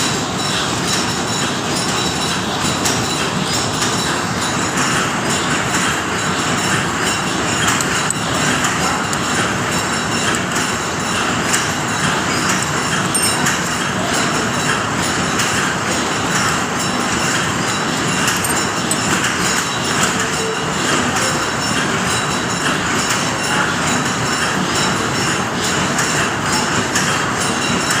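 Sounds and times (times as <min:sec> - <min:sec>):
machinery clattering and humming: 0:00.0 - 0:28.0.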